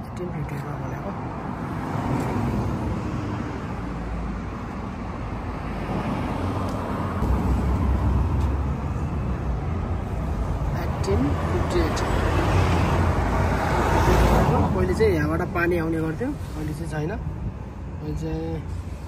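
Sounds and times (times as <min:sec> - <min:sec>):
road traffic rumbling: 0:00.0 - 0:19.0.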